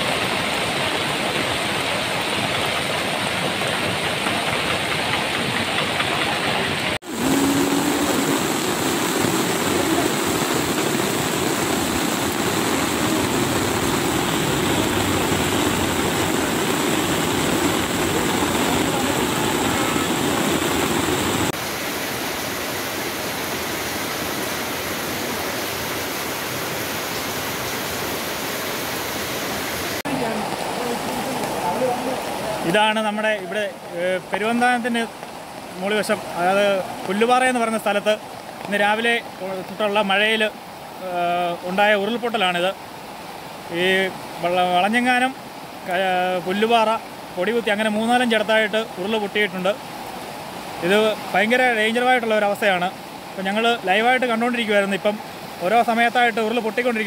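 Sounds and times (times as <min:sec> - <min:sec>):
floodwater torrent rushing: 0:00.0 - 0:57.0.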